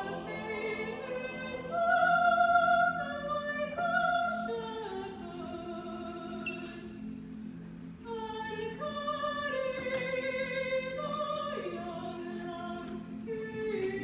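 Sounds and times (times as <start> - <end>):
vocal ensemble singing: 0.0 - 7.1, 8.0 - 14.0.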